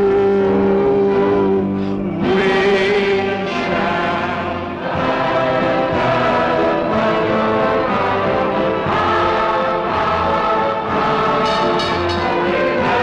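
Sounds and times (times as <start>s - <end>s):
choir singing with accompaniment: 0.0s - 13.0s.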